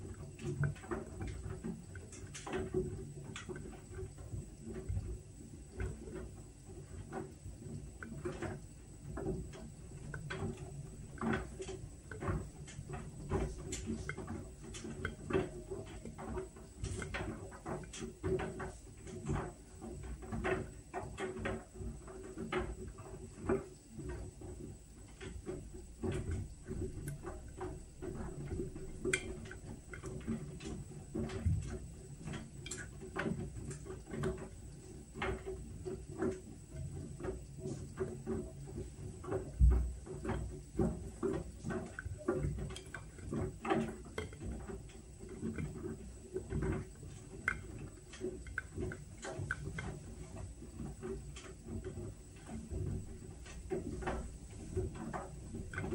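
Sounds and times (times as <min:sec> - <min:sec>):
clicks and light knocks: 0:00.0 - 0:55.9
washing machine hum: 0:00.0 - 0:55.9.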